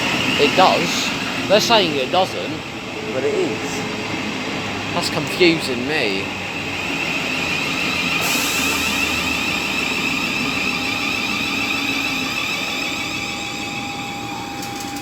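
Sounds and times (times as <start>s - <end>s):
electric train rushing: 0.0s - 15.0s
high traction whine: 0.0s - 15.0s.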